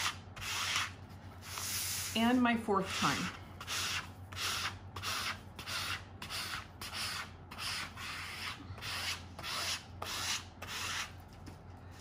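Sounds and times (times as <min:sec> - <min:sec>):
burnisher rubbing on paper: 0:00.0 - 0:11.2.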